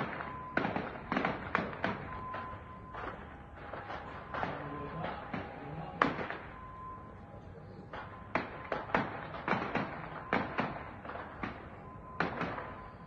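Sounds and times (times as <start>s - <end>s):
gunshots with echo: 0.0s - 6.6s, 7.9s - 13.0s.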